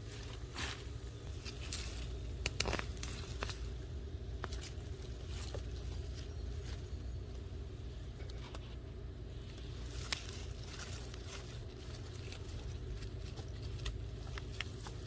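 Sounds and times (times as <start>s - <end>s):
digging soil scrapes and crunches: 0.0s - 15.0s
steady low rumble: 0.0s - 15.0s.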